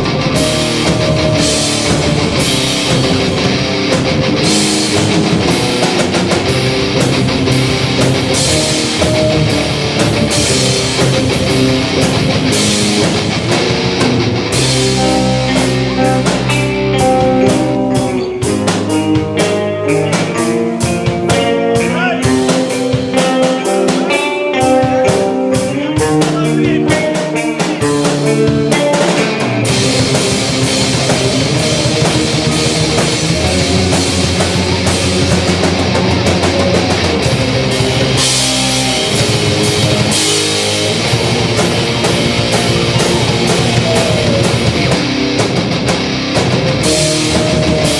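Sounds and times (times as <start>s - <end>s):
drum kit: 0.0s - 47.9s
electric guitar: 0.0s - 47.9s
rock music: 0.0s - 47.9s.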